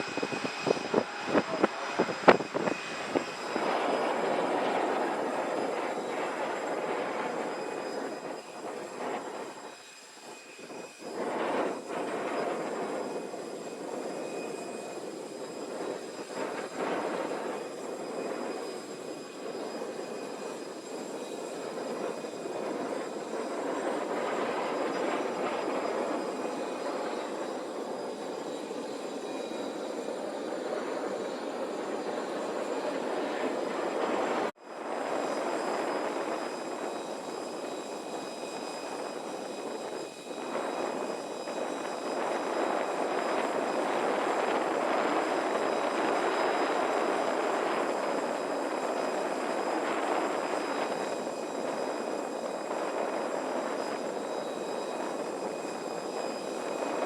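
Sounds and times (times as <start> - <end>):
jet aircraft engine noise: 0.0 - 57.0.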